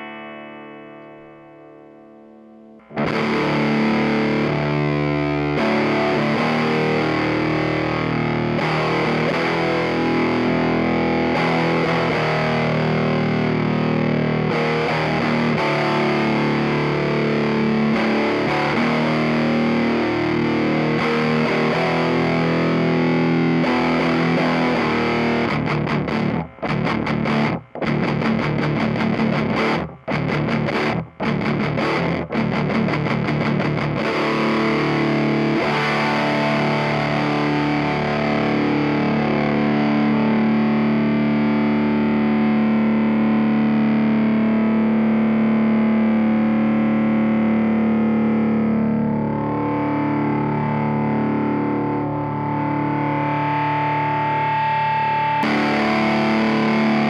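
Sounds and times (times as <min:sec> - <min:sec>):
distorted electric guitar chords: 0:00.0 - 0:57.0.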